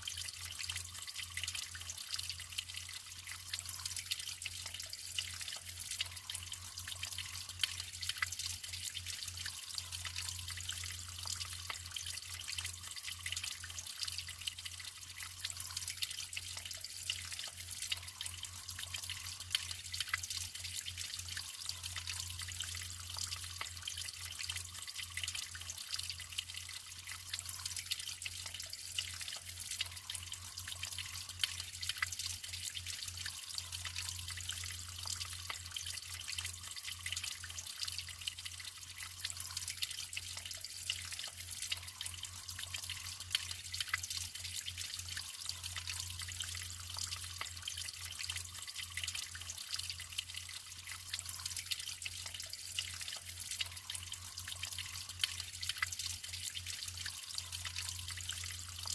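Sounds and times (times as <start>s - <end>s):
water drips and plops: 0.0s - 58.9s
water trickling and splashing: 0.0s - 58.9s.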